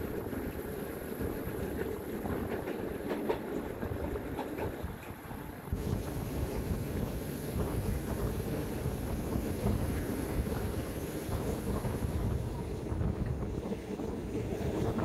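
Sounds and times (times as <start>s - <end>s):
train rumbling on track: 0.0s - 15.0s
wind rushing through windows: 0.0s - 15.0s.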